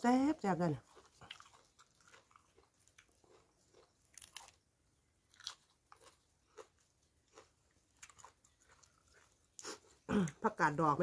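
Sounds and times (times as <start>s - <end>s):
mouth crunching leafy greens: 0.4s - 4.6s, 5.3s - 11.0s.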